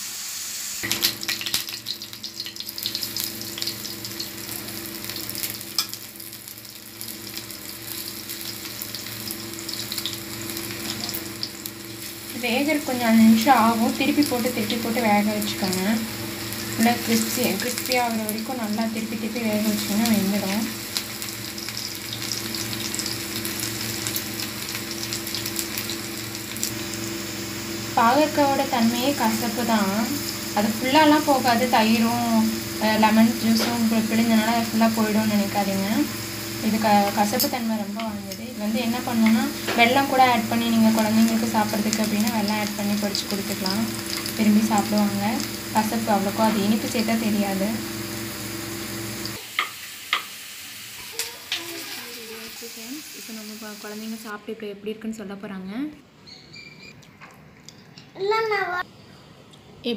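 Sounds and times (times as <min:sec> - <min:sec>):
battered food frying in oil: 0:00.0 - 0:54.4.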